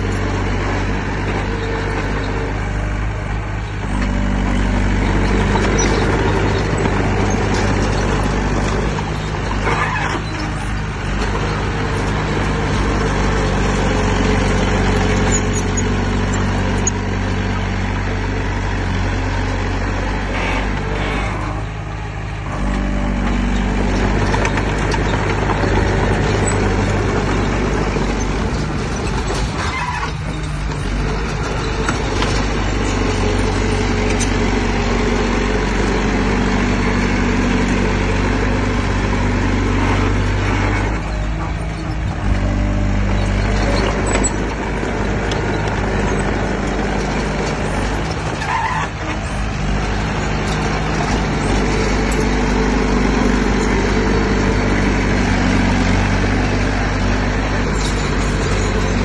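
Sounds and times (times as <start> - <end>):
heavy diesel engine running hard: 0.0 - 59.0.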